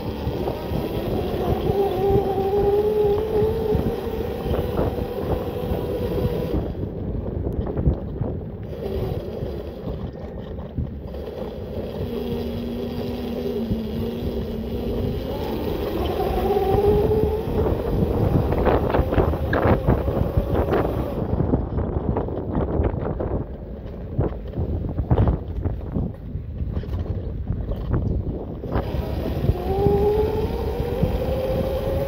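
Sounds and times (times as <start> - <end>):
electric bike motor whining: 0.0 - 23.4, 27.7 - 32.0
wind rumble on microphone: 0.0 - 32.0.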